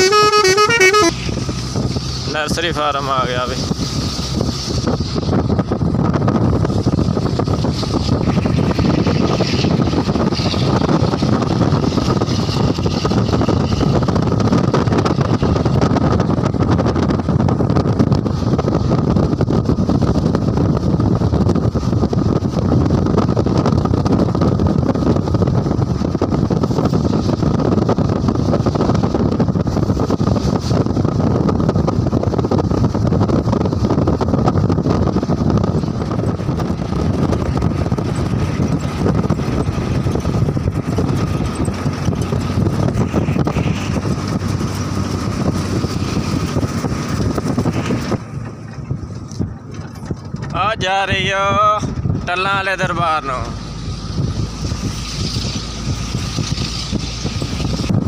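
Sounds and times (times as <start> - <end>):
vehicle engine and road rumble: 0.0 - 58.0
wind buffeting microphone: 1.1 - 58.0.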